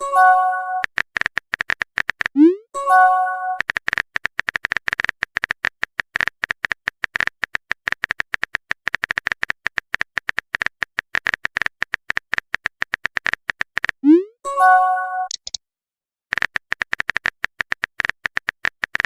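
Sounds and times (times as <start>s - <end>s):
keyboard typing: 0.0s - 14.3s, 14.9s - 15.6s, 16.3s - 19.0s.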